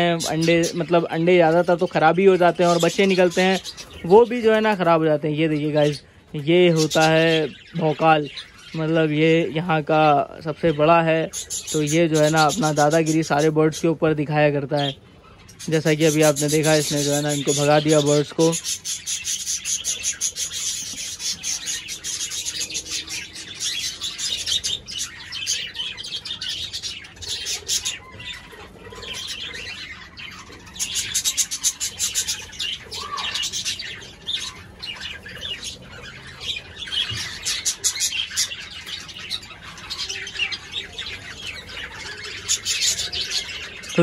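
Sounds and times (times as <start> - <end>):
cockatiels chirping and chattering: 0.0 - 44.0.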